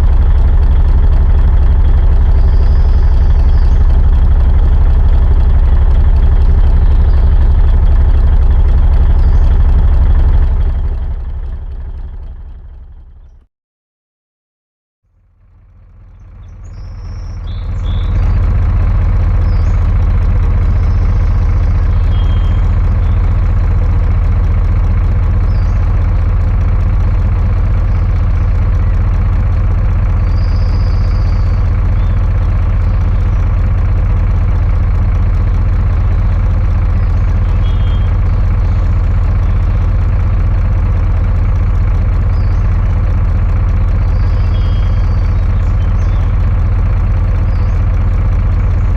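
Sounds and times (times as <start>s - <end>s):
diesel engine idling: 0.0s - 13.4s, 15.2s - 48.9s.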